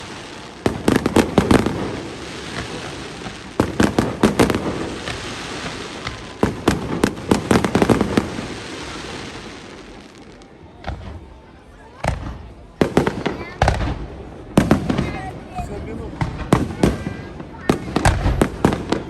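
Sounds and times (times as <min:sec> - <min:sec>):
fireworks bangs: 0:00.0 - 0:11.3, 0:11.9 - 0:19.0.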